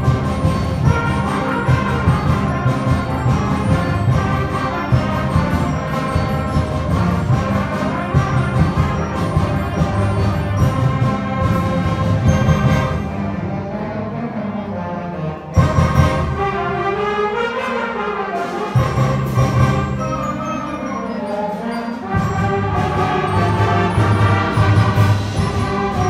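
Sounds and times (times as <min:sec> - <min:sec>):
concert band playing: 0:00.0 - 0:26.0
trumpets: 0:00.0 - 0:26.0.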